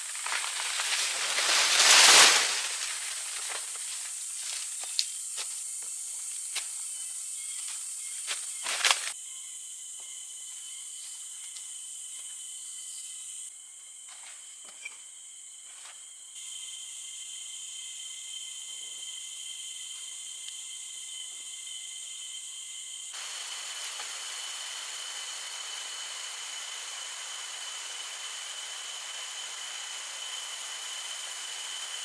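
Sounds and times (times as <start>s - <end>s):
insect chorus: 0.0s - 32.0s.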